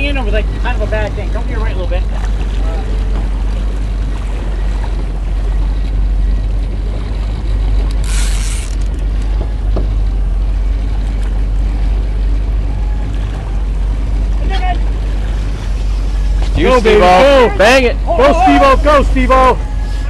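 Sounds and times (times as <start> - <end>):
boat engine rumbling: 0.0 - 20.0
water noise: 0.0 - 20.0
wind: 0.0 - 20.0.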